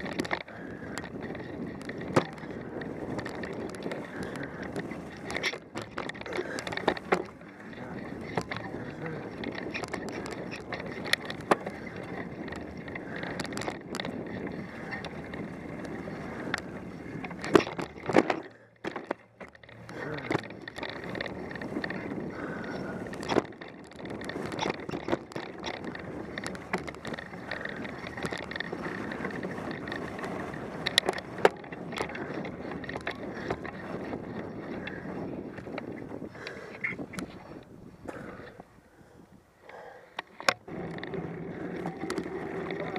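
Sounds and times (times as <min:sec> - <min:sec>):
bike rolling on dirt trail: 0:00.0 - 0:42.9.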